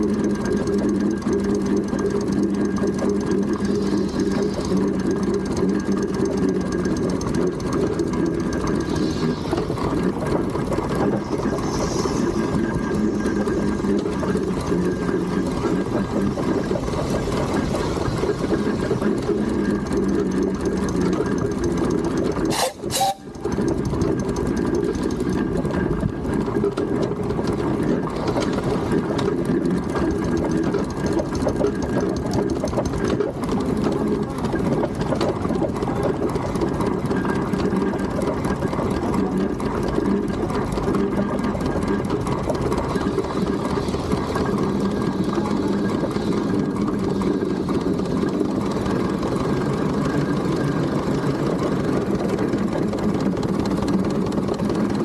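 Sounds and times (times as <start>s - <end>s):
rapid mechanical ticking: 0.0s - 55.0s
steam engine hum: 0.0s - 55.0s.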